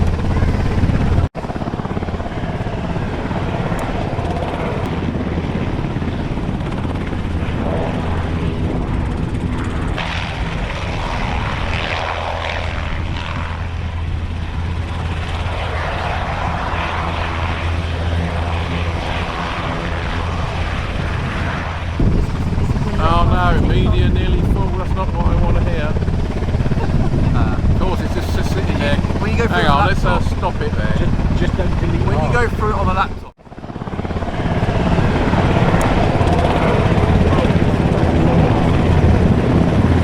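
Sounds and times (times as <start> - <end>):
aircraft engine droning: 0.0 - 40.0.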